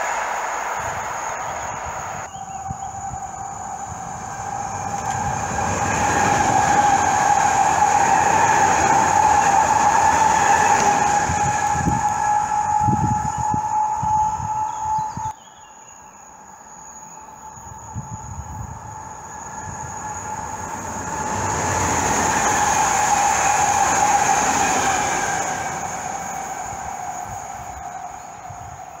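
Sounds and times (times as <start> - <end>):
electric train passing: 0.0 - 15.4, 16.2 - 29.0
train whine: 0.0 - 15.4, 16.2 - 29.0.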